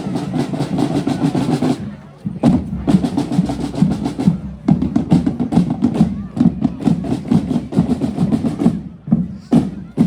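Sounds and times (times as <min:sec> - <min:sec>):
drums playing a fast beat: 0:00.0 - 0:10.0.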